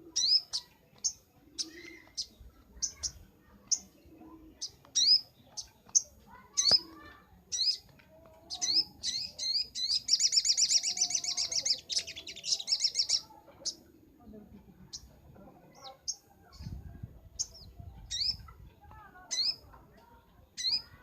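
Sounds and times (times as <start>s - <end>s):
bird chirping and trilling: 0.1s - 13.9s, 15.7s - 19.7s, 20.4s - 21.0s.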